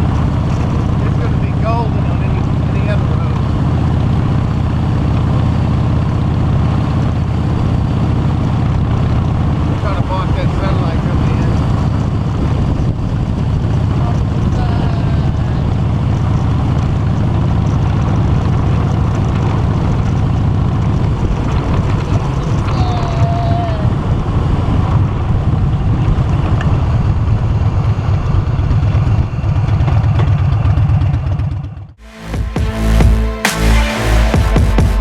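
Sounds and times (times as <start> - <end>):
wind rushing over microphone: 0.0 - 31.3
motorcycle engine running: 0.0 - 35.0.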